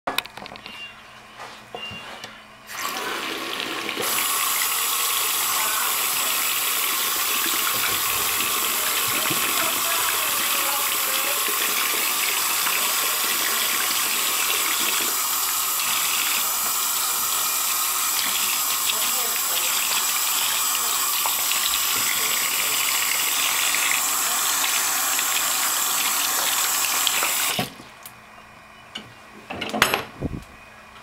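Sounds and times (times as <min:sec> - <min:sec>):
faucet turned on: 0:02.7 - 0:27.7
tap water running into basin: 0:02.7 - 0:27.8.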